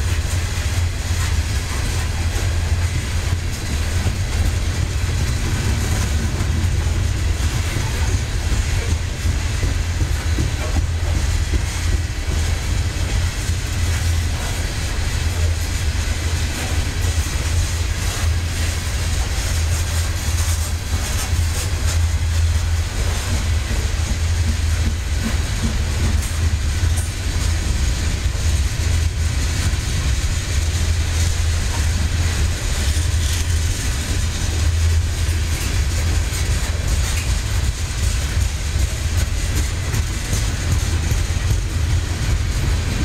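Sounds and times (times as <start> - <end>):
train wheels rumbling on rail: 0.0 - 43.0
wheels clacking over rail joints: 0.0 - 43.0.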